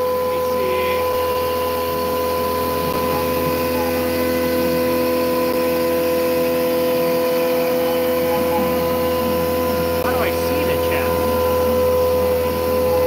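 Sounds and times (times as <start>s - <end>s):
mill cutting steel whine: 0.0s - 13.0s.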